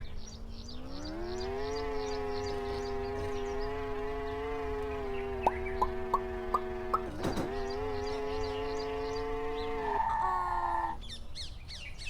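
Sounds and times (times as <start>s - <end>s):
buzzing drone: 0.0s - 11.0s.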